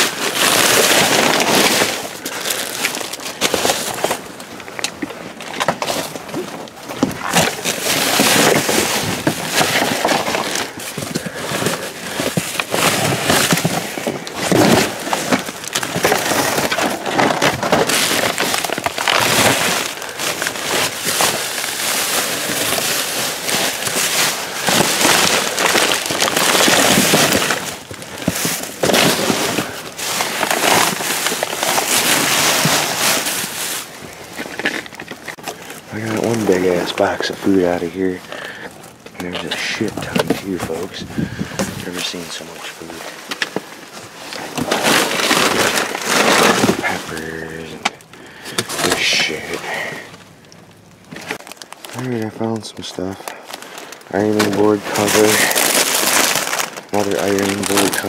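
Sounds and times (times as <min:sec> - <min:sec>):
plastic bags crinkling: 0:00.0 - 0:58.0.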